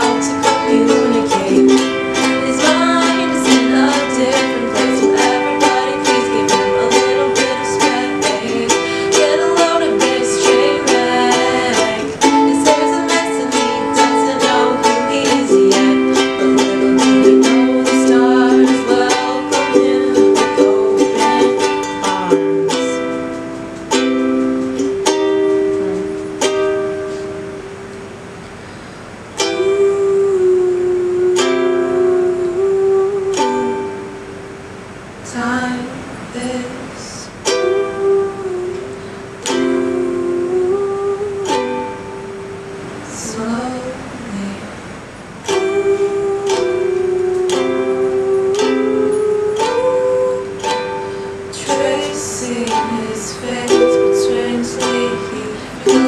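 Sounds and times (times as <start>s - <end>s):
ukulele strumming: 0.0s - 56.0s.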